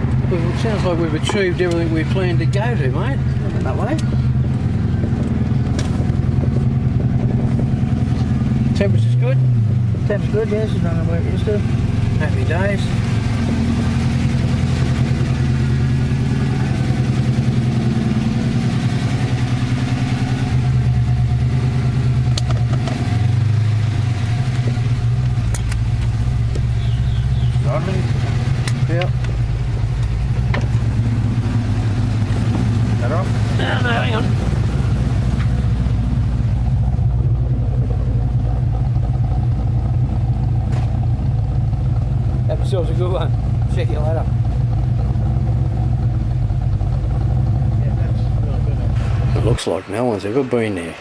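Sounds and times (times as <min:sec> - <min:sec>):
car engine running at low revs: 0:00.0 - 0:51.0.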